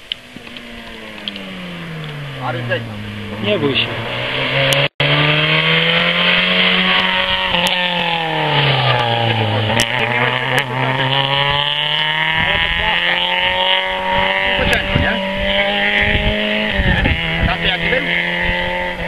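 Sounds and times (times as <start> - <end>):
car engine revving past: 0.1 - 19.0.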